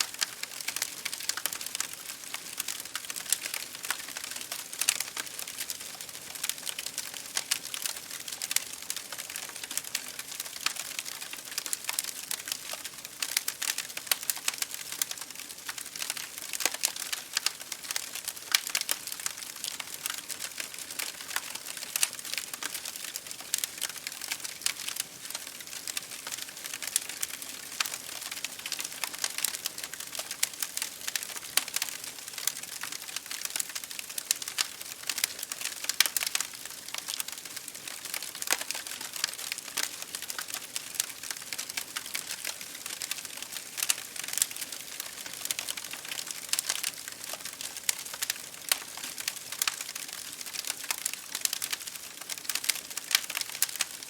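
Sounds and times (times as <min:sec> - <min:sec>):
rain hissing on a window: 0:00.0 - 0:54.0
wood fire crackling: 0:00.0 - 0:54.0.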